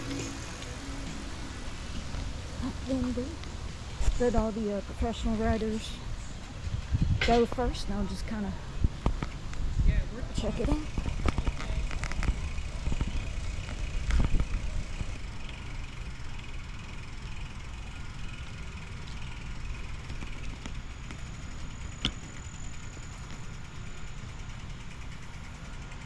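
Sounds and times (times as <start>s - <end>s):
bike rattling and clicking: 0.0s - 26.0s
low wind rumble: 0.0s - 26.0s.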